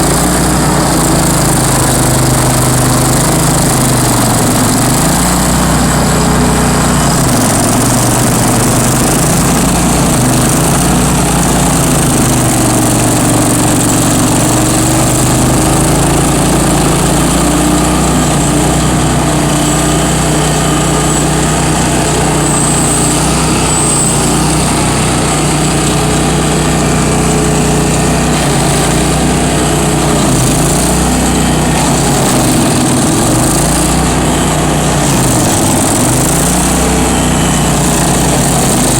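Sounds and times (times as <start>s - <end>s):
stump grinder engine running: 0.0s - 38.9s.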